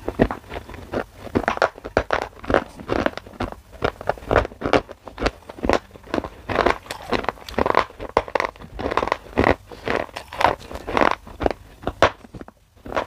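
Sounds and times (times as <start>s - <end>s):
gritty crunching chewing: 0.0s - 13.0s.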